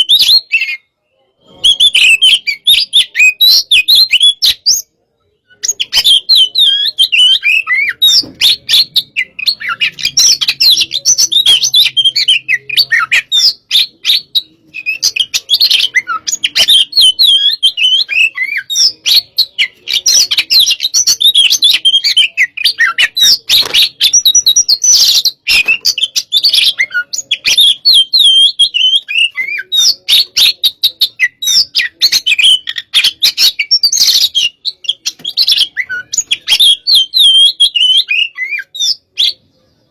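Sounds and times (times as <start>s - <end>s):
bird singing whistled notes and clicks: 5.5s - 39.4s.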